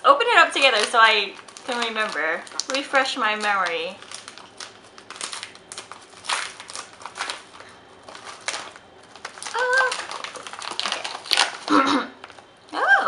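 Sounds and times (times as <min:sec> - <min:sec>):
packaging rustling and crinkling: 0:00.4 - 0:12.8.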